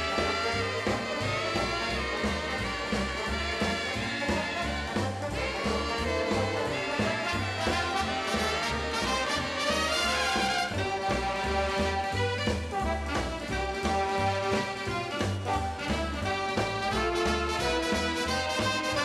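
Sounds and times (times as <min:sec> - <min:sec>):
pulsing bass line: 0:00.0 - 0:19.0
swing music with brass: 0:00.0 - 0:19.0.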